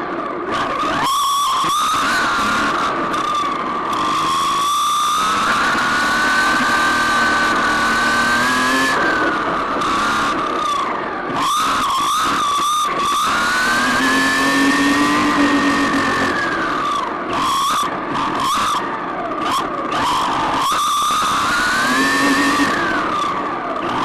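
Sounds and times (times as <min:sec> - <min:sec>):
rc car motor whining: 0:00.3 - 0:24.0.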